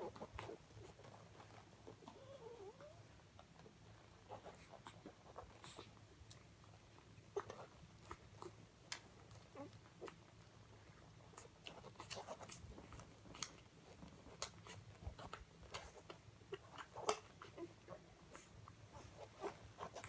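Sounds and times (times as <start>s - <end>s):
puppies suckling: 0.0s - 20.0s.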